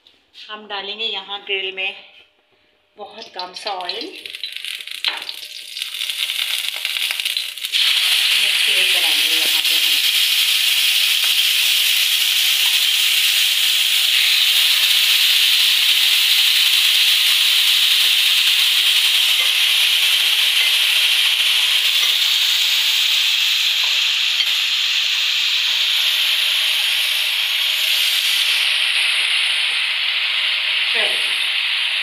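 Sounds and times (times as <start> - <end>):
meat sizzling in grill pan: 3.8 - 32.0.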